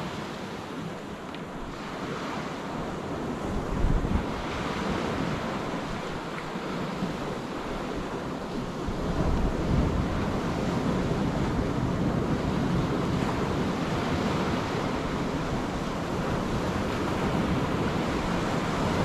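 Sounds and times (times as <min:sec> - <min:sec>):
sea surf: 0:00.0 - 0:19.0
wind rumbling on microphone: 0:00.0 - 0:19.0.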